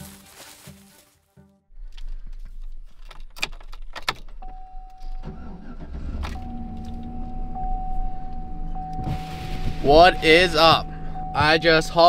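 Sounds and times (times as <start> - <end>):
truck engine starting and idling: 1.7 - 12.0.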